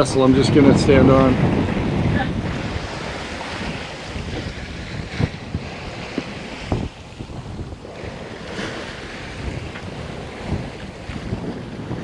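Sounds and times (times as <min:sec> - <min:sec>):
water rushing past hull: 0:00.0 - 0:12.0
wind buffeting microphone: 0:00.0 - 0:12.0.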